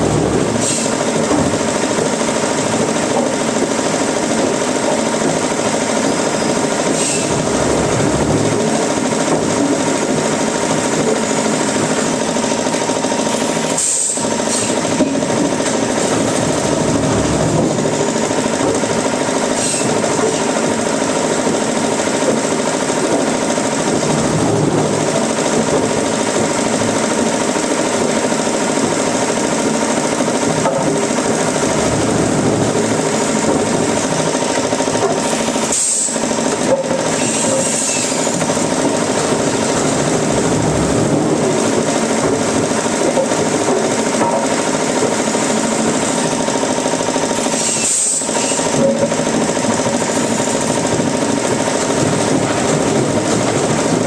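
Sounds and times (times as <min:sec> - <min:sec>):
woodworking machinery grinding: 0:00.0 - 0:54.0.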